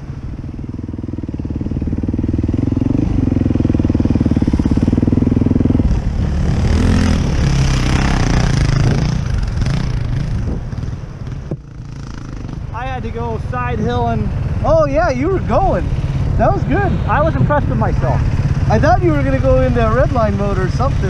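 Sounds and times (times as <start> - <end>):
dirt bike engine revving: 0.8 - 10.9, 11.6 - 21.0
rough rushing noise: 1.3 - 21.0.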